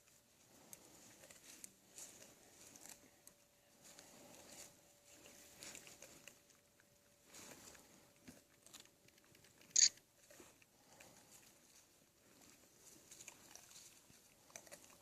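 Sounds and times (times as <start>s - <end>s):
bears crunching peanuts: 0.0s - 15.0s.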